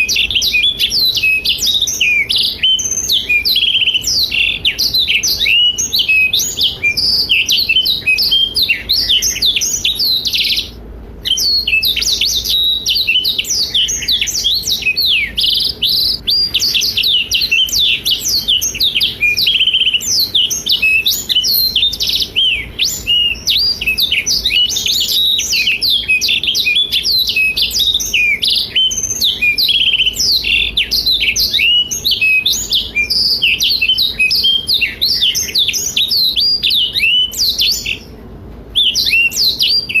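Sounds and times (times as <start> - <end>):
canary singing: 0.0 - 40.0.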